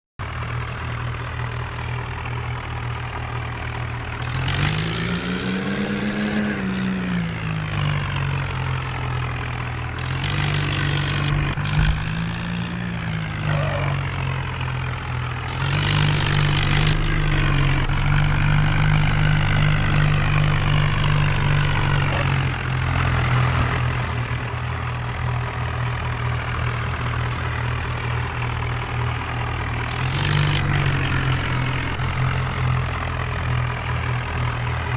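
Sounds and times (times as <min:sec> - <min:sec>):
tractor diesel engines revving: 0:00.2 - 0:34.9.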